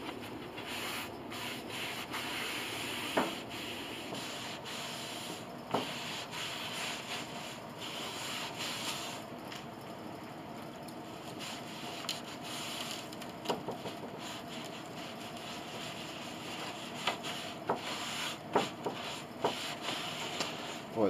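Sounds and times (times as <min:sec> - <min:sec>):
cloth rubbing on wood: 0:00.2 - 0:09.2, 0:11.2 - 0:13.1, 0:13.7 - 0:21.0.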